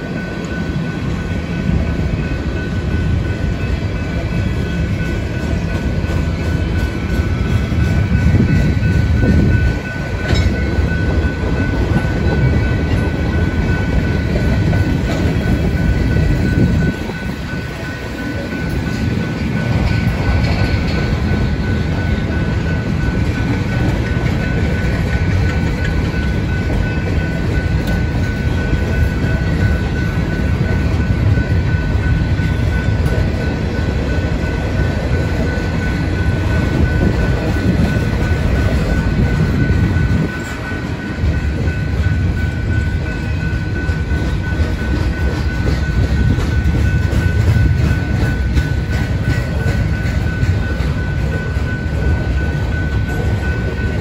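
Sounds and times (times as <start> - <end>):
steady high tone: 0.0 - 54.0
train wheels rumbling on rails: 0.0 - 54.0.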